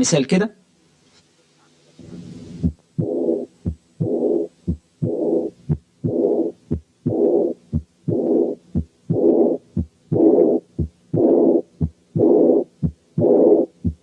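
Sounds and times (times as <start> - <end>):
heart murmur: 2.6 - 14.0
heartbeat through stethoscope: 2.6 - 14.0.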